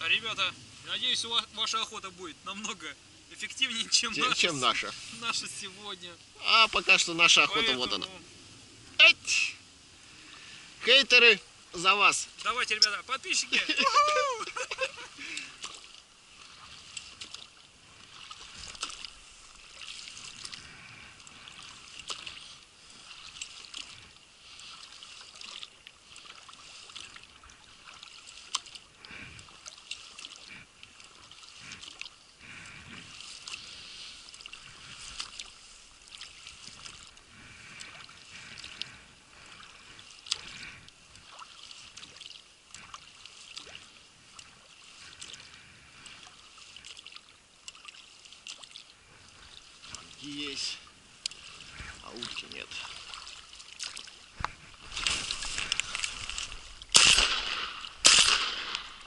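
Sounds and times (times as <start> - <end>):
water splashing off oars: 0.3 - 59.0.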